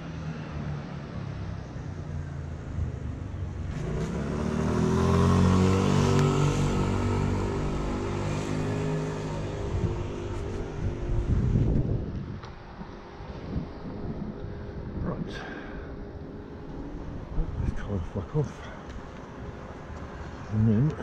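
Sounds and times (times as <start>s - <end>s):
car engine humming: 2.2s - 21.0s.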